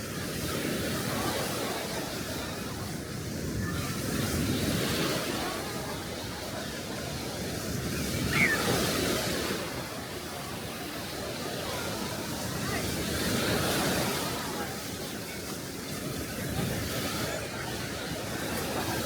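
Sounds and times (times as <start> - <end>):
small waves washing onto beach: 0.0 - 19.0.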